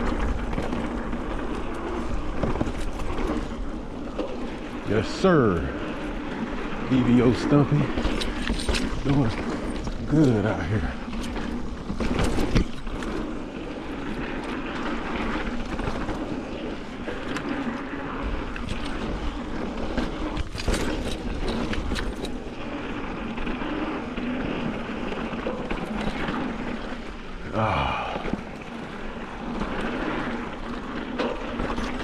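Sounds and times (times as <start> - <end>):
bike knocking and rattling: 0.0 - 32.0
tyre and wind noise: 0.0 - 32.0.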